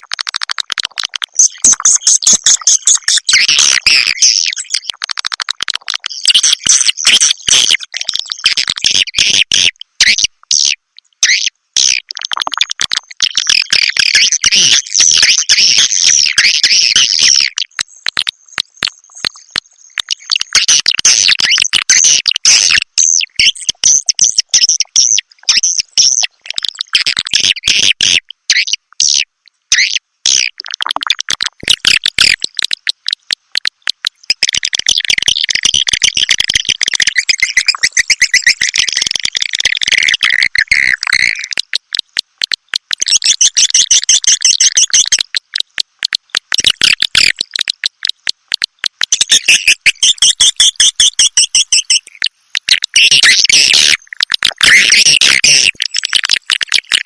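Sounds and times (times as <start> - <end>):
swiftlet clicking twitters: 0.0 - 10.7, 11.8 - 29.2, 29.8 - 57.0.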